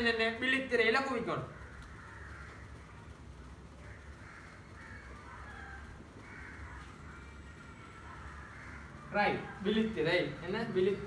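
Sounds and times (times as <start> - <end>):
crows cawing: 0.0 - 11.0
steady low hum: 0.0 - 11.0.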